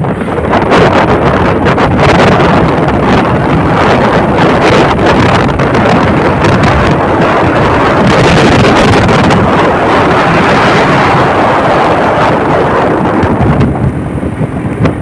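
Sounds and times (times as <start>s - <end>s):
motorcycle engines running: 0.0s - 15.0s
wind buffeting microphone: 0.0s - 15.0s.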